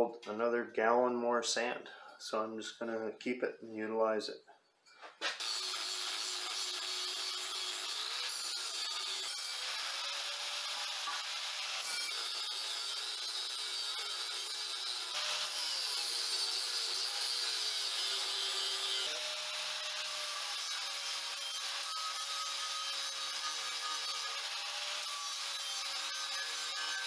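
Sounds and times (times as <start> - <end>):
angle grinder cutting steel: 5.2 - 27.0.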